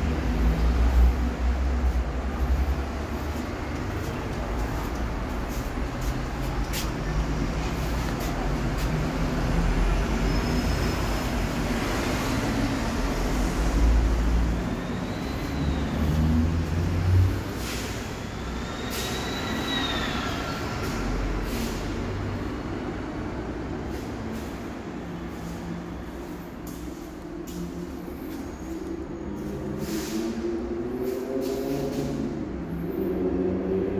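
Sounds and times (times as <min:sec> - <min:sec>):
rumble of passing vehicles: 0:00.0 - 0:33.9.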